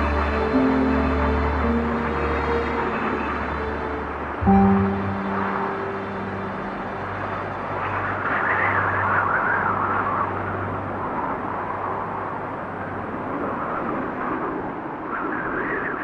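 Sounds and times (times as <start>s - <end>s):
blizzard wind whistling: 0.0s - 16.0s.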